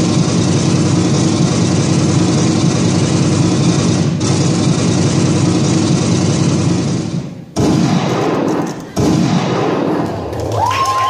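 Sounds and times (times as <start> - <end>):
engine-like rumble: 0.0 - 10.7.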